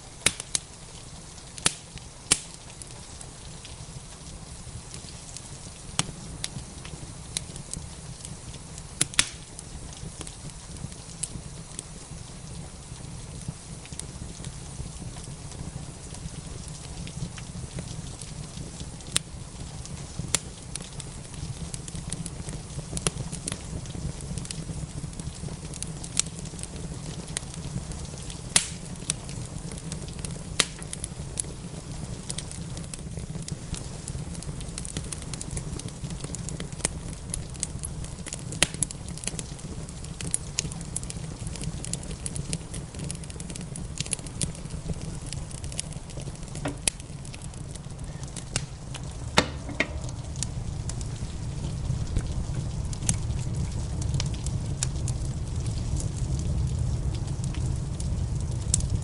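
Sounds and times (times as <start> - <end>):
rain patter: 0.0 - 59.0
wood fire crackling: 0.0 - 59.0.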